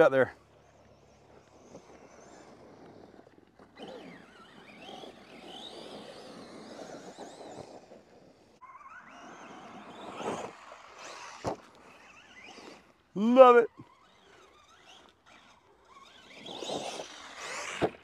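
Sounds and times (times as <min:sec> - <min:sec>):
toy truck running across dirt: 0:00.0 - 0:18.0
electric motor whining: 0:00.5 - 0:18.0.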